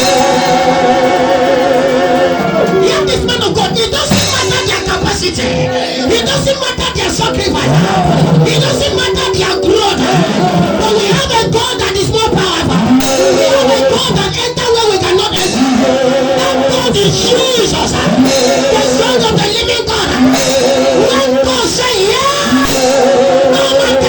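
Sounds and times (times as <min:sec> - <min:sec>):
person singing worship music: 0:00.0 - 0:24.0.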